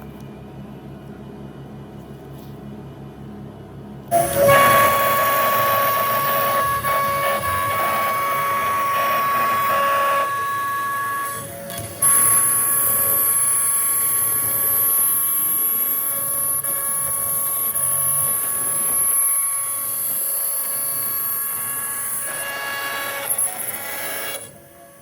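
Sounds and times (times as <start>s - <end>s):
electric power tool whining: 4.1s - 25.0s.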